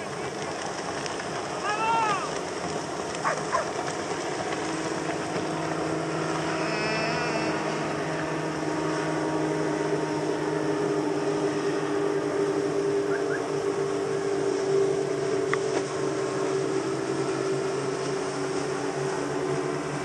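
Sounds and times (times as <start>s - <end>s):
outboard motors droning: 0.0s - 20.0s.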